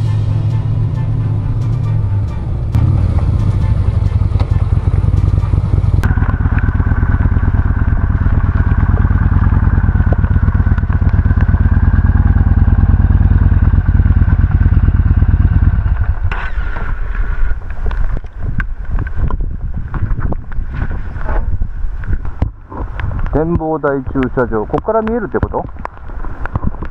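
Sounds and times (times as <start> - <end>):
motorcycle engine at low speed: 0.0 - 26.9.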